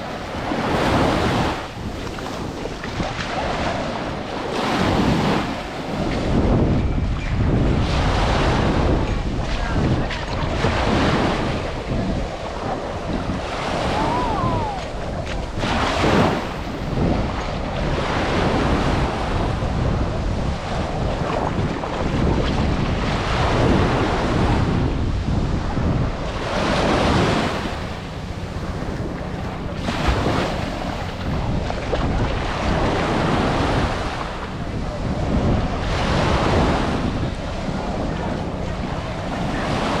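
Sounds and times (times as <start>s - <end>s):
ocean surf on a beach: 0.0s - 40.0s
wind buffeting the microphone: 0.0s - 40.0s.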